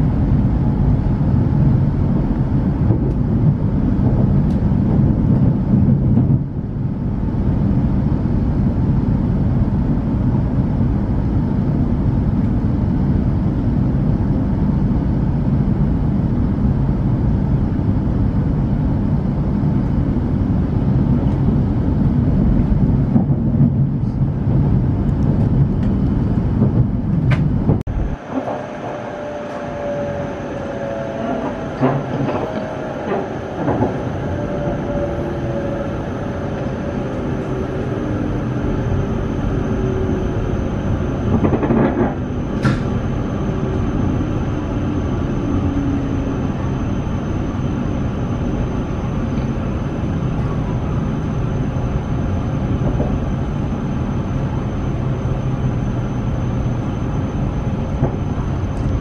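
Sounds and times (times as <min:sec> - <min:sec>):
train rumbling at speed: 0:00.0 - 0:59.0.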